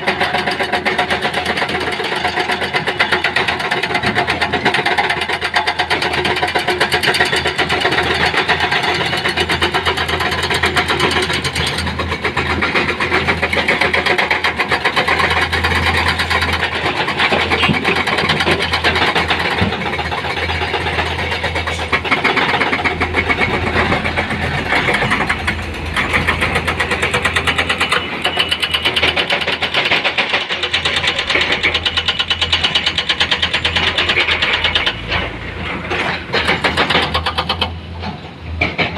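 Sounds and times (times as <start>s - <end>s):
engine running with rattle: 0.0s - 38.9s.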